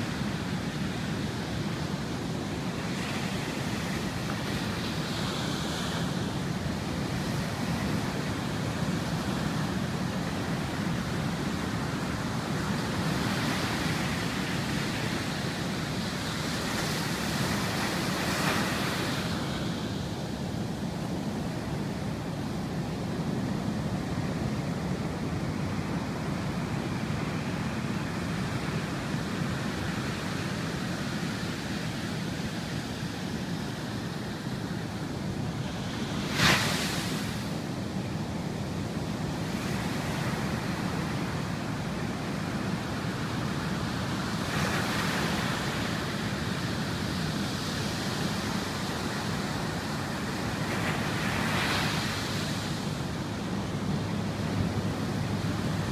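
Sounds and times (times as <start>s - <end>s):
ocean surf breaking: 0.0s - 55.9s.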